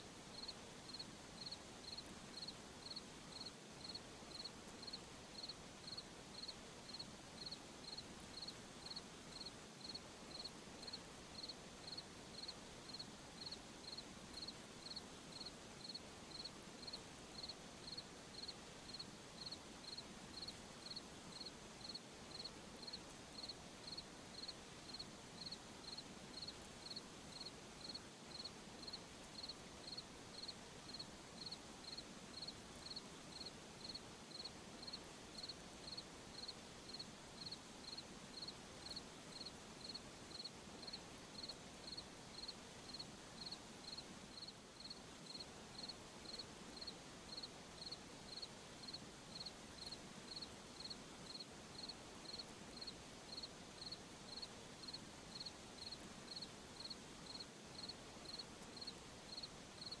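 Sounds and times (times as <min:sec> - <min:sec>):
cricket chirping: 0:00.3 - 1:00.0
distant insects hiss: 0:00.3 - 1:00.0.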